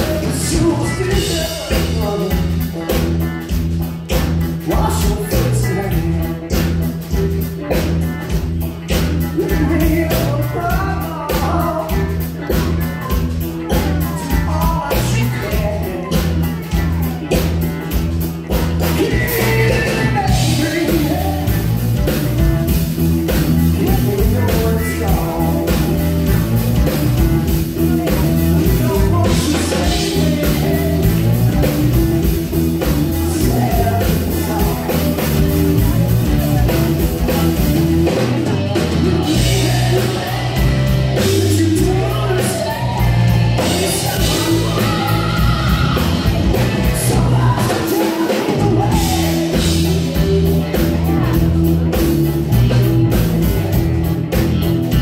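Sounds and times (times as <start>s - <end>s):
person singing: 0.0s - 54.6s
bass guitar: 0.0s - 55.0s
drum kit: 0.0s - 55.0s
electric guitar: 0.0s - 55.0s
keyboards: 0.0s - 55.0s.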